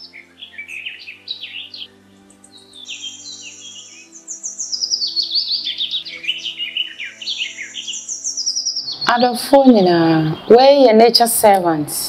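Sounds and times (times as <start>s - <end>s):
soft background music: 0.0s - 12.0s
songbirds chirping and trilling: 0.0s - 12.0s.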